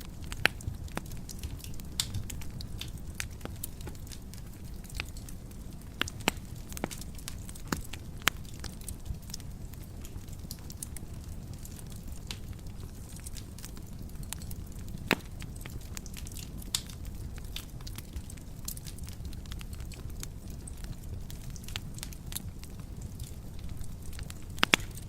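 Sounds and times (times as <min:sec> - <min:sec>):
fire crackling and popping: 0:00.0 - 0:25.0
fire rumbling: 0:00.0 - 0:25.0.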